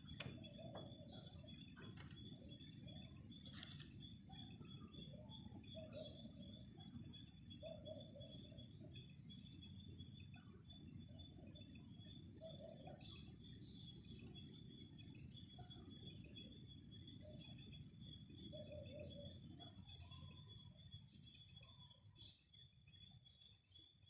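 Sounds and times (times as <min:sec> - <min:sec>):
crickets and insects chirring: 0:00.0 - 0:24.0
short insect calls: 0:00.0 - 0:24.0.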